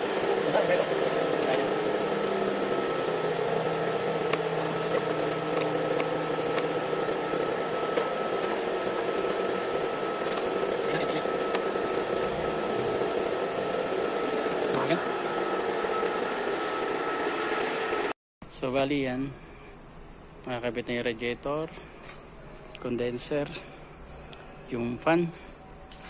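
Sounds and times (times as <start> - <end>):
high constant whine: 0.0 - 26.0
machine hum: 0.0 - 26.0.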